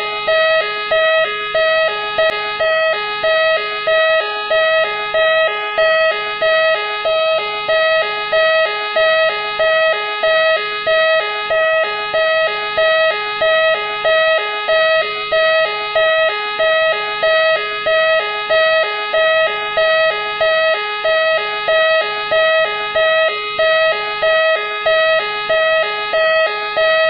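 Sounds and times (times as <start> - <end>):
police car siren: 0.0 - 27.0.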